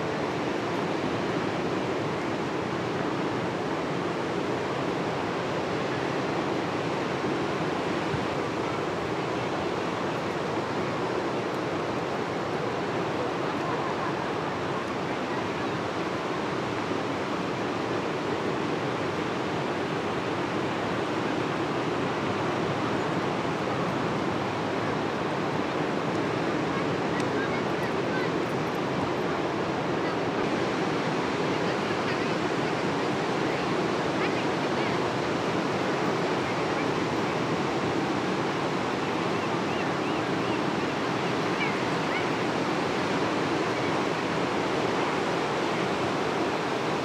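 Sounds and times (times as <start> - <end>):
ocean surf washing onto beach: 0.0 - 47.0.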